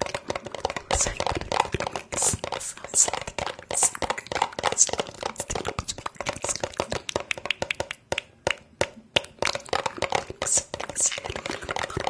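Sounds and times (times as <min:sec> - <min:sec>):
rapid tapping and clicking: 0:00.0 - 0:12.0.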